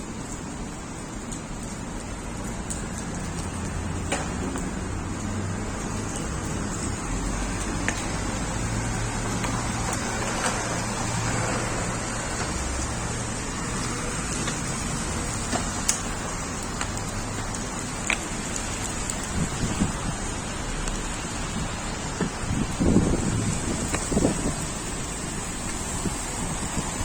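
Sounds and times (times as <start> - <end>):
vehicle and wind rumble: 0.0 - 27.0.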